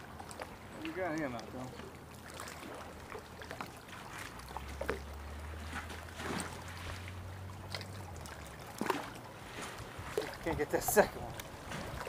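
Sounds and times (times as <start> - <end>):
light water splashes: 0.0 - 12.0.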